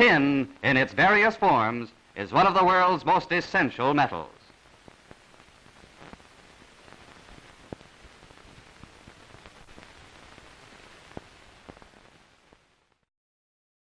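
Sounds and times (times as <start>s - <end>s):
film soundtrack hiss and crackle: 0.0s - 13.1s.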